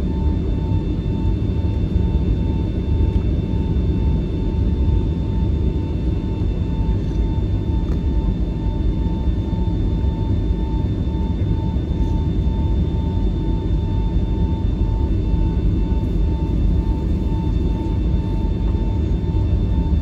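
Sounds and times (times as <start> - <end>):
airplane cabin rumble: 0.0 - 20.0
thin pulsing whine: 0.0 - 20.0.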